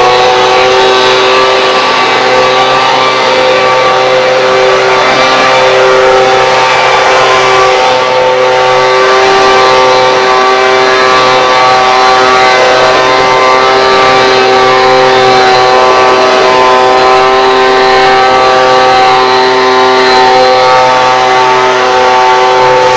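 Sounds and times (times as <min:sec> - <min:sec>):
leaf blower running: 0:00.0 - 0:22.9.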